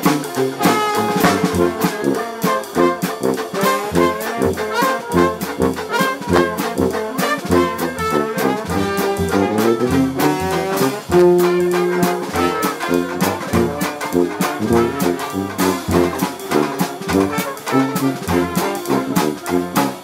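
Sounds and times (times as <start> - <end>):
jazz band playing live: 0.0 - 20.0.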